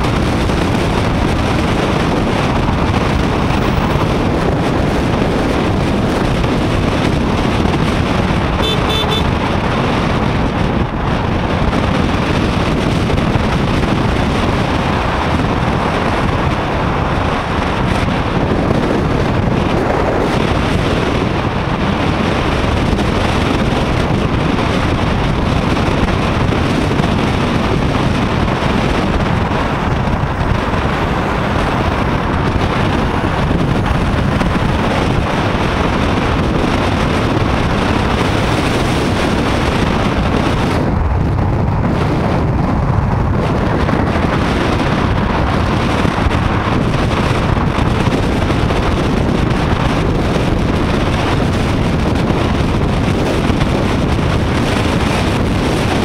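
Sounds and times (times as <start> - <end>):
motorcycle road noise: 0.0 - 56.0
wind buffeting microphone: 0.0 - 56.0.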